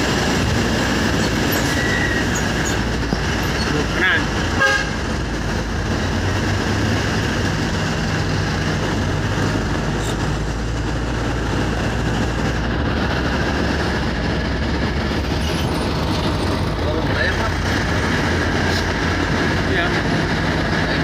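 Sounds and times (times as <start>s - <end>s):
engine hum: 0.0s - 21.0s
road noise: 0.0s - 21.0s.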